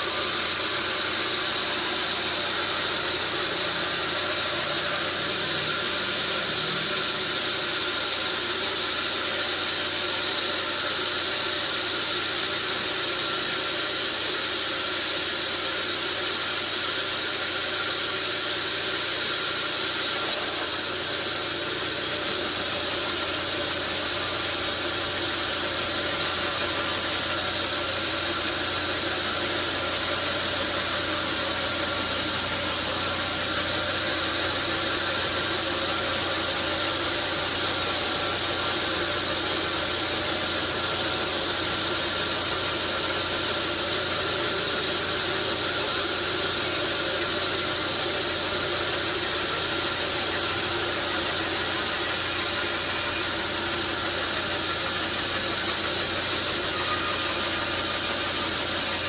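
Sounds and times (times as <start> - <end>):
sawmill machinery humming and hissing: 0.0 - 59.0.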